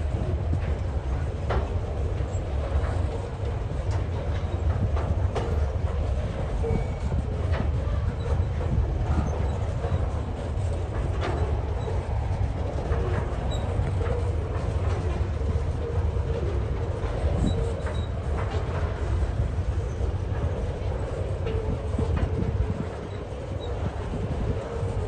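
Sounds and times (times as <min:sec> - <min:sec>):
train rumbling past: 0:00.0 - 0:25.0
wheels clanking over rail joints: 0:00.0 - 0:25.0.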